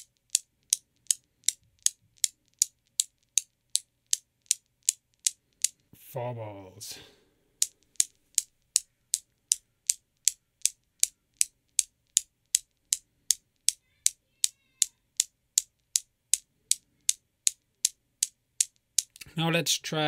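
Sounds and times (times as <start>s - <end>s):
newton's cradle balls clacking: 0.0s - 5.9s, 7.6s - 19.3s.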